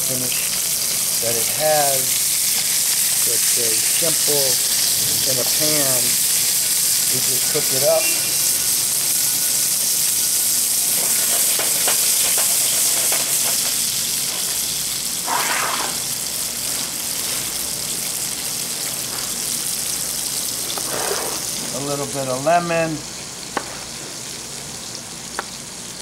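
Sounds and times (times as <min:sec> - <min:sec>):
fish fillets sizzling in pan: 0:00.0 - 0:26.0.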